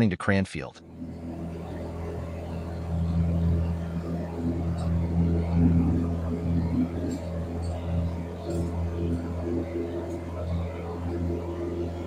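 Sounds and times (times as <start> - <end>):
aircraft piston engine humming: 0.8 - 12.0.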